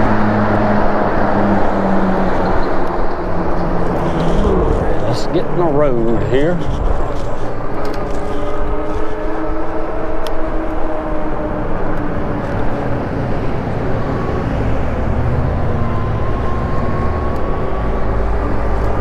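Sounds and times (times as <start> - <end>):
low wind buffeting: 0.0 - 19.0
steady motor whine: 0.0 - 19.0
wind rush and road noise: 0.0 - 19.0.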